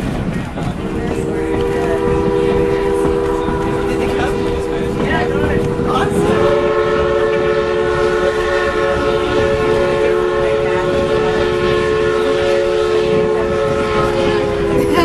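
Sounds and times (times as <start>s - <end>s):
train running noise: 0.0s - 15.0s
steam locomotive whistle blast: 0.9s - 15.0s.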